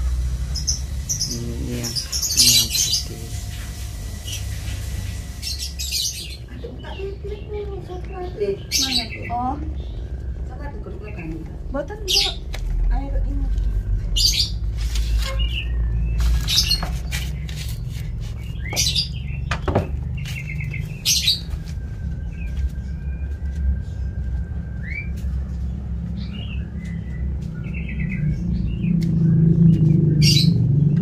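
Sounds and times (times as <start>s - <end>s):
small birds chirping: 0.0s - 31.0s
steady low rumble: 0.0s - 31.0s.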